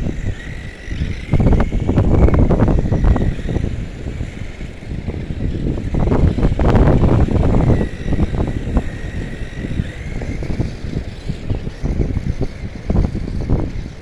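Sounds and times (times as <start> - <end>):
toy truck electric motor whining: 0.0 - 14.0.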